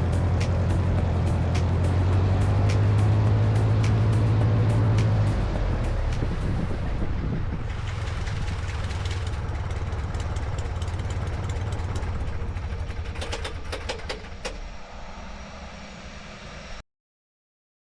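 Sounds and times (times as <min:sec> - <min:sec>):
light plane engine droning: 0:00.0 - 0:16.8.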